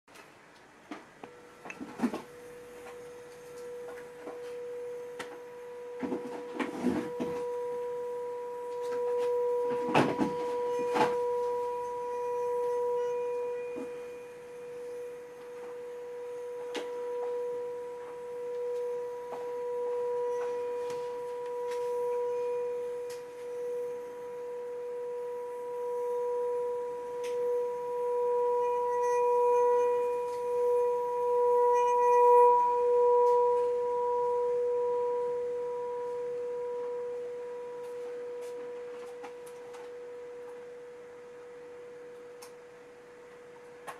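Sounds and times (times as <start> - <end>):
singing bowl ringing tone: 1.2 - 43.9.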